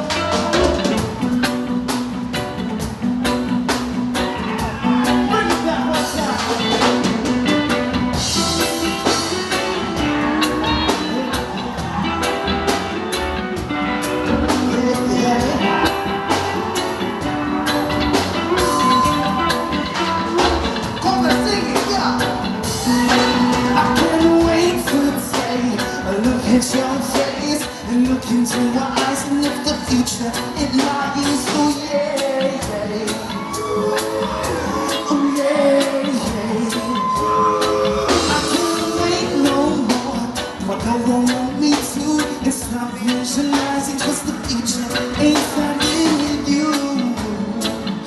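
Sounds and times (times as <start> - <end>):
reggae rock band playing: 0.0 - 48.0.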